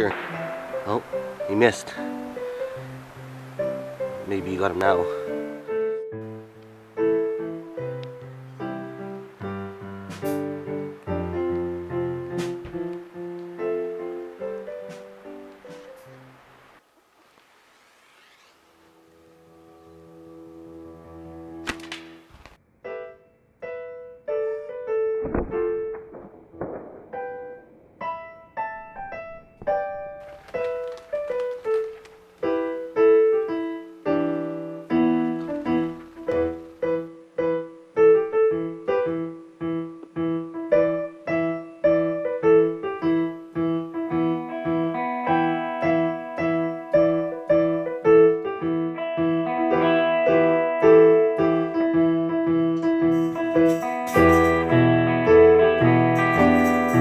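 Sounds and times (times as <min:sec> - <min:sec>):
piano music: 0:00.0 - 0:16.8, 0:18.8 - 0:57.0.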